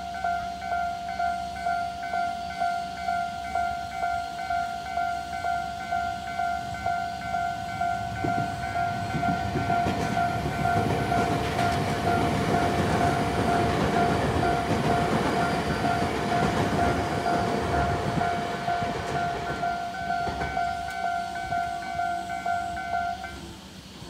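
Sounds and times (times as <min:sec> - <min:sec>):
level crossing warning bell: 0:00.0 - 0:23.6
train wheels rumbling on rails: 0:00.0 - 0:24.0.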